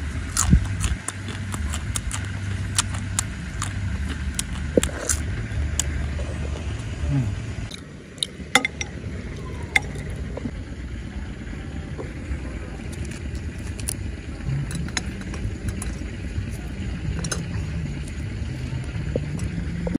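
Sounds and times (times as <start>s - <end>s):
low motor rumble: 0.0s - 19.9s.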